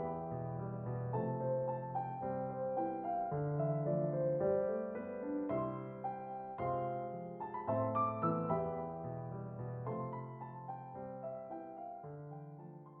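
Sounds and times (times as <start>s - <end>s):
slow gentle piano chords: 0.0s - 13.0s.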